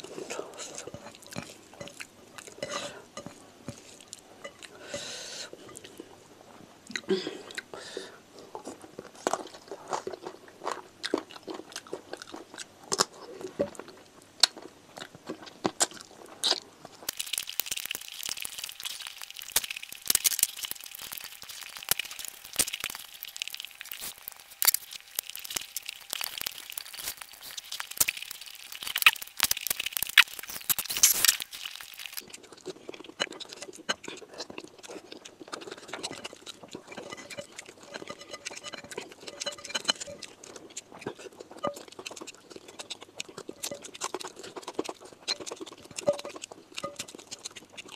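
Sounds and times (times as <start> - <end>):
wet chewing: 0.0 - 4.9, 8.4 - 47.9
crunching food: 8.4 - 47.9.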